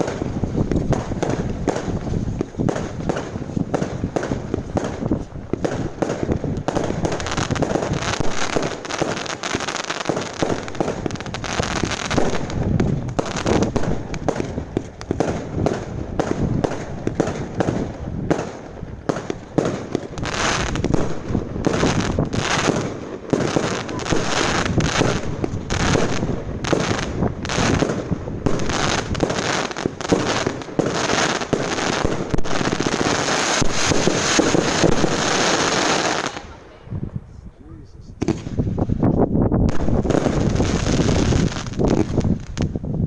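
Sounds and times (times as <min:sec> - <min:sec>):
fireworks bangs and crackling: 0:00.0 - 0:37.3, 0:38.0 - 0:43.0.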